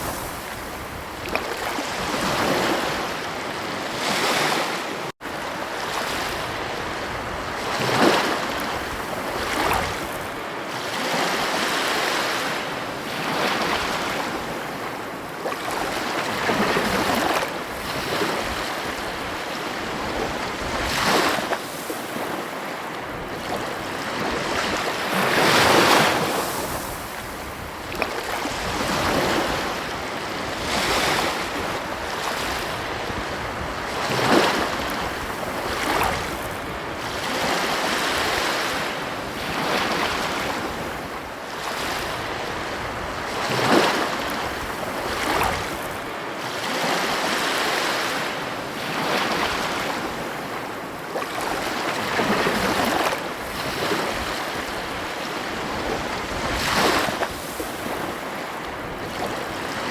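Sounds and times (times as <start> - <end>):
waves washing on a beach: 0.0 - 59.9.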